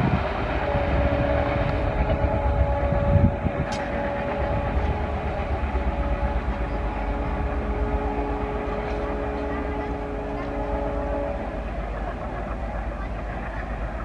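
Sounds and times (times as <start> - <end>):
train rumbling on rails: 0.0 - 14.0
train whine: 0.0 - 14.0.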